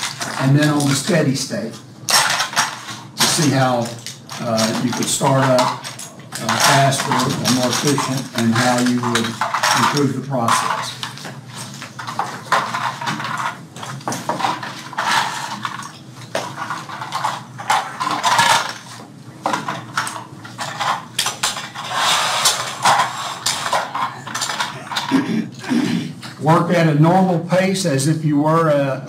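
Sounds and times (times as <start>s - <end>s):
toy parts clattering and clicking: 0.0s - 1.4s, 2.1s - 25.2s.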